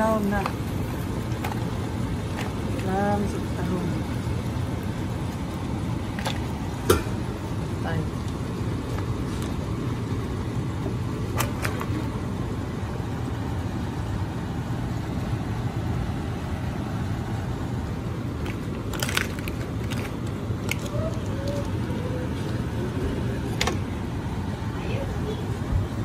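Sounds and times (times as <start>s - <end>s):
low motor hum with rushing: 0.0s - 26.0s.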